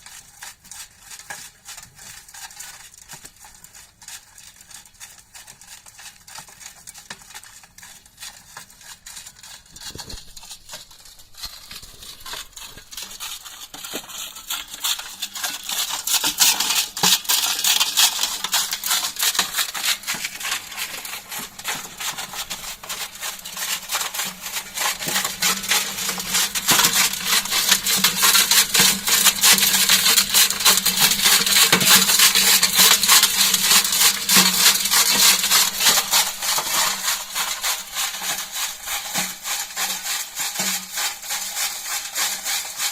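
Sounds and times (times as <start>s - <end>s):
sand rattling through vibrating sieve: 0.0s - 42.9s.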